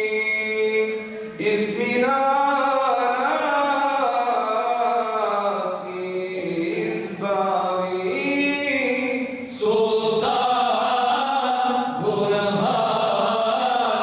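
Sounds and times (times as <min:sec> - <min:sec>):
men singing unaccompanied: 0:00.0 - 0:14.0.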